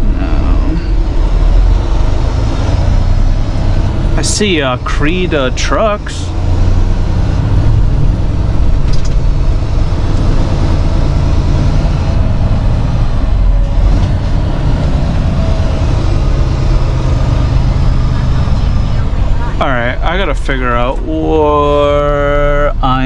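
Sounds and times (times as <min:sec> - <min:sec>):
diesel engine low drone: 0:00.0 - 0:23.0.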